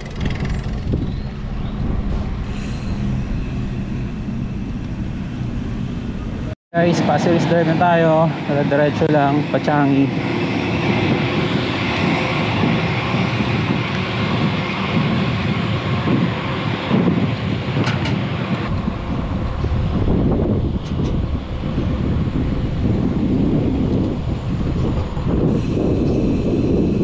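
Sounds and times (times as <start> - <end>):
bicycle road noise: 0.0 - 6.6, 9.7 - 27.0
wind rushing over microphone: 0.0 - 27.0.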